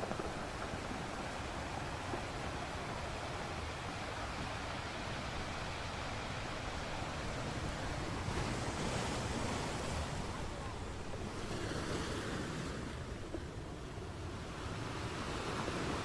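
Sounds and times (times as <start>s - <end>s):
waves washing ashore: 0.0s - 16.0s.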